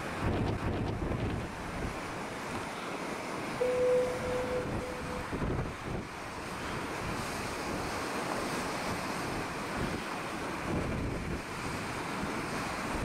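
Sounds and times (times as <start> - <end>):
wind buffeting microphone: 0.0 - 2.4, 3.5 - 13.0
waves breaking: 0.0 - 13.0.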